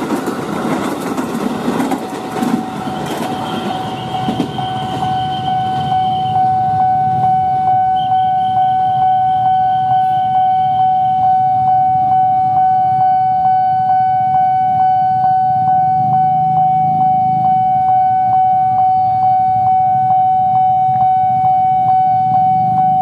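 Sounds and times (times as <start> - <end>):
level crossing alarm ringing: 2.1 - 23.0.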